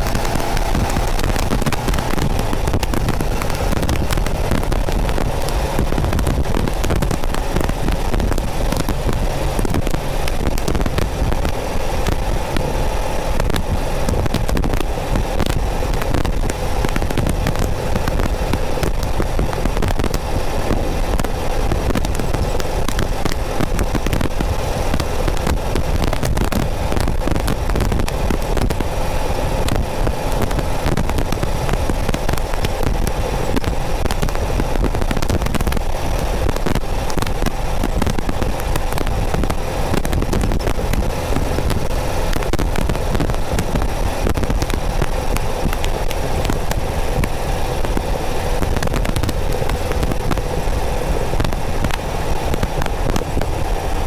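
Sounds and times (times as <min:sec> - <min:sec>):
car engine running: 0:00.0 - 0:54.0
static crackle: 0:00.0 - 0:54.0.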